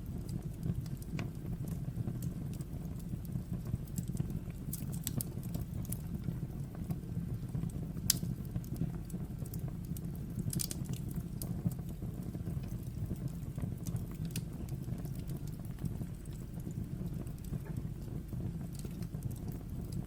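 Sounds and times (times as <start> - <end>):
fire crackling and popping: 0.0 - 20.0
fire flames rumbling: 0.0 - 20.0.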